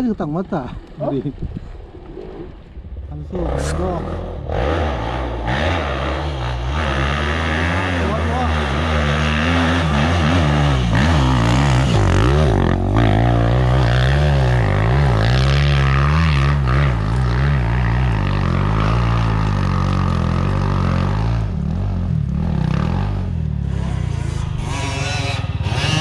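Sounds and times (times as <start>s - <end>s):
motorcycle engine revving: 3.3s - 26.0s.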